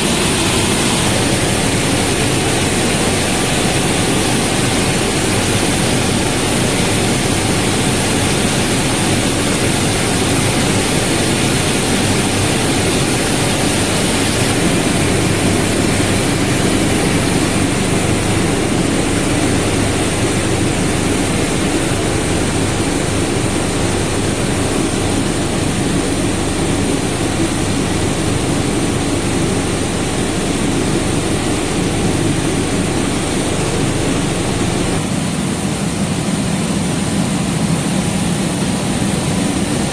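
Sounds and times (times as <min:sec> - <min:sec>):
thin high whine: 0:00.0 - 0:35.3
production line machinery running: 0:00.0 - 0:39.9.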